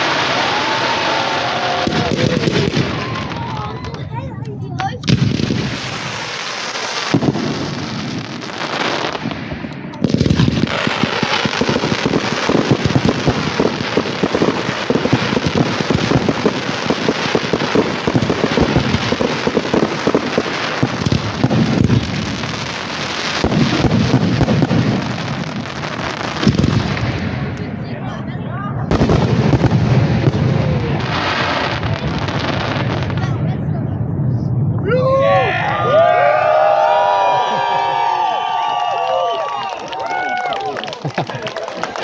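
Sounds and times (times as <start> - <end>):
heavy firework booms: 0.0 - 38.1
fireworks bangs and crackling: 0.0 - 42.0.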